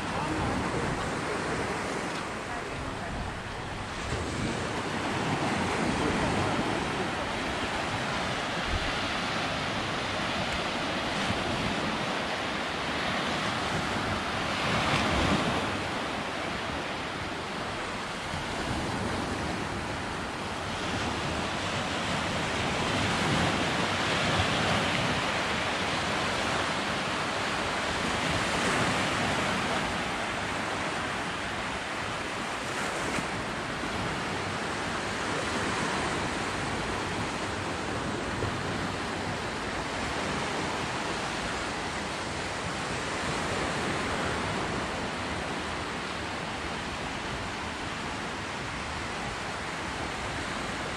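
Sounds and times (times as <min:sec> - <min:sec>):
waves washing up a beach: 0:00.0 - 0:50.9.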